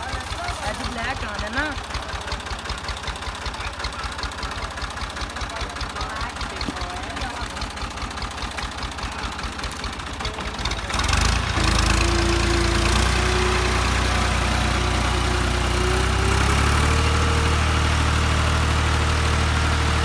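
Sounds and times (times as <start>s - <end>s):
tractor diesel engine: 0.0s - 20.0s
wheels churning through mud: 0.0s - 20.0s.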